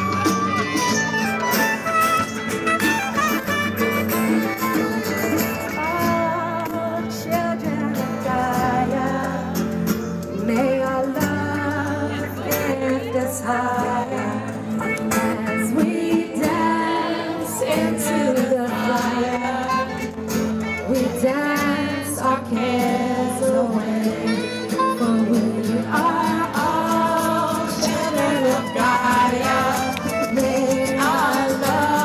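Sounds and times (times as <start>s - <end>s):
strummed acoustic guitars: 0.0s - 32.0s
woman singing: 5.6s - 32.0s.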